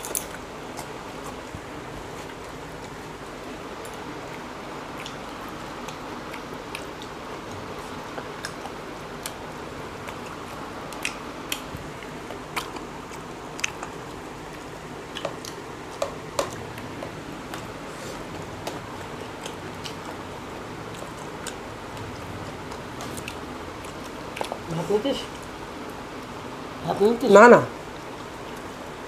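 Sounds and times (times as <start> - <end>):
people chewing and biting: 0.0 - 26.4.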